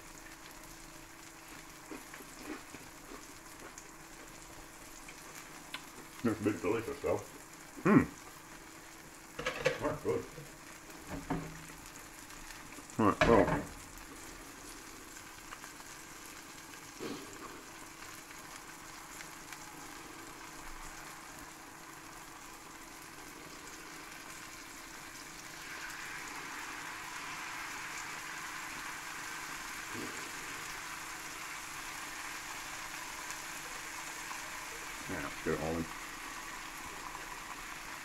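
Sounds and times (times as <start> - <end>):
cheese sizzling in a frying pan: 0.0 - 38.0.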